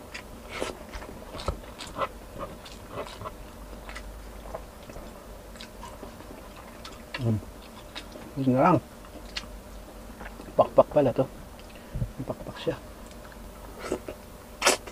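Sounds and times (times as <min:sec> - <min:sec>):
man chewing food: 0:00.0 - 0:08.4, 0:09.0 - 0:10.6, 0:11.6 - 0:11.9, 0:13.0 - 0:14.9.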